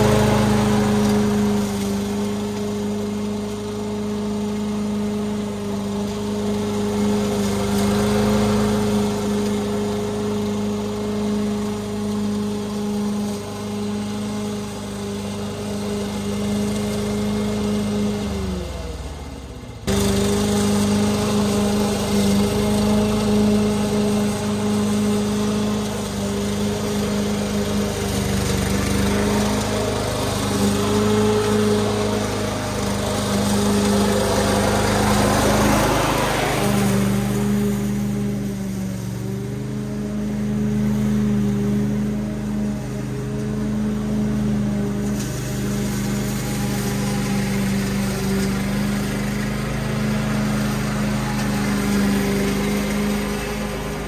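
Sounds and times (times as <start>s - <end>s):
lawn mower running: 0.0s - 54.0s.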